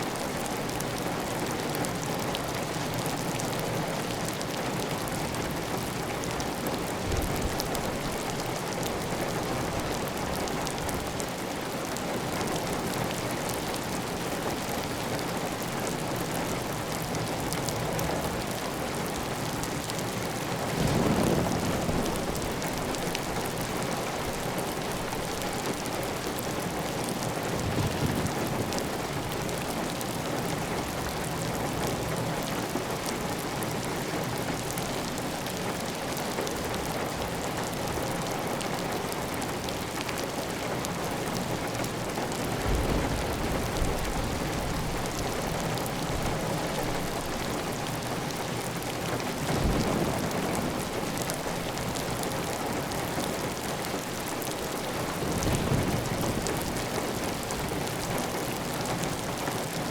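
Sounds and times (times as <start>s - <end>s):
heavy rain on a tile roof: 0.0s - 59.9s.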